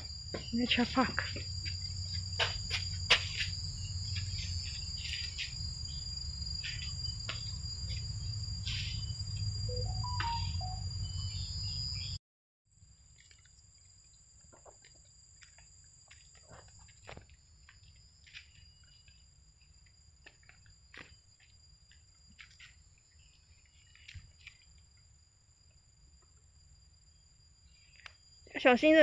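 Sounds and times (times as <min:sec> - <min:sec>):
insects shrilling drone: 0:00.0 - 0:12.2, 0:13.2 - 0:29.0.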